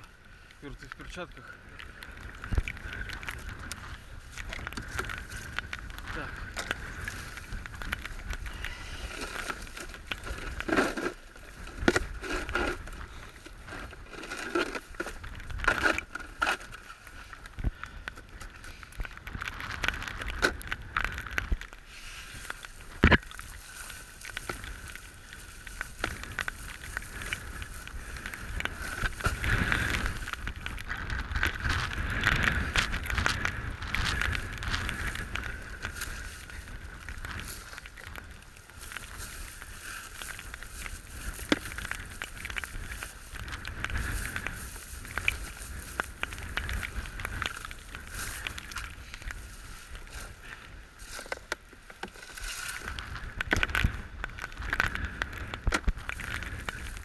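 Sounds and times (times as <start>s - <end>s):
wind rumble on microphone: 0.0s - 51.4s, 52.1s - 57.0s.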